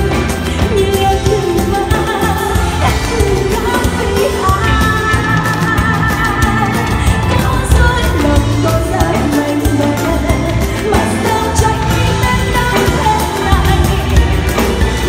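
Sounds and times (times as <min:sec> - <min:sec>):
live band playing slow song: 0:00.0 - 0:15.0.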